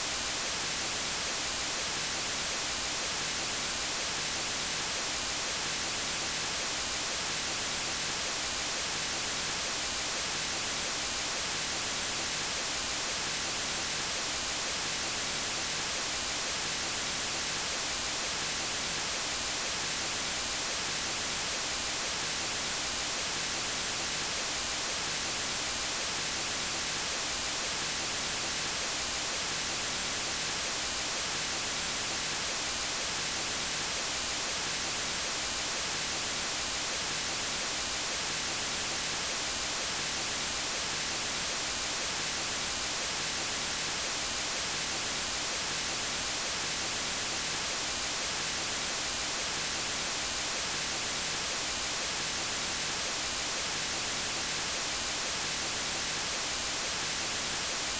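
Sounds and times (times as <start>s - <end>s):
white noise hiss: 0.0s - 57.9s.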